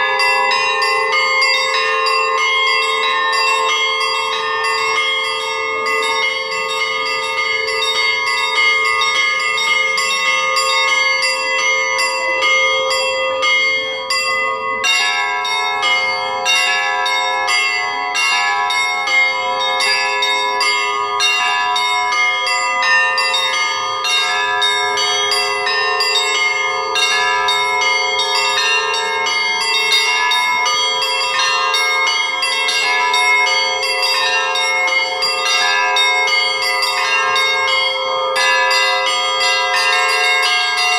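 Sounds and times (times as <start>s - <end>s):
hum of large bells: 0.0s - 40.9s
small bells ringing quickly: 0.0s - 40.9s.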